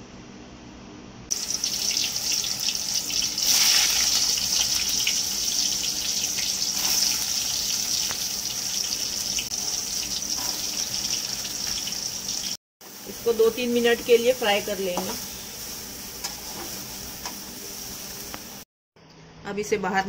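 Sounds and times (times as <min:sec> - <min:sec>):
food sizzling in hot oil: 0:01.3 - 0:18.7.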